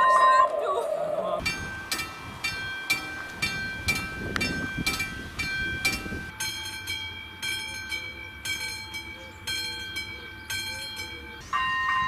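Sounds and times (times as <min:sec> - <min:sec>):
train rumble: 0:00.6 - 0:12.0
level crossing warning bell: 0:01.4 - 0:12.0.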